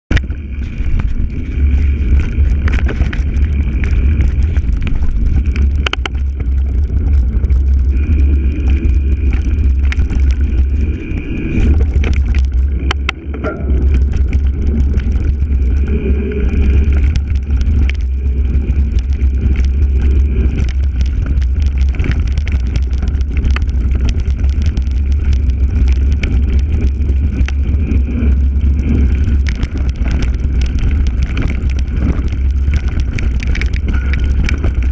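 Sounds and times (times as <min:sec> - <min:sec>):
wind and tyres rumbling: 0:00.0 - 0:34.9
bike knocks and rattles: 0:00.1 - 0:15.7, 0:16.8 - 0:34.9.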